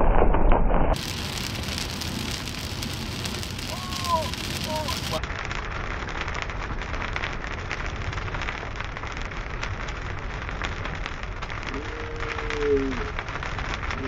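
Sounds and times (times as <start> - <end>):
heavy rain falling: 1.0 - 14.0.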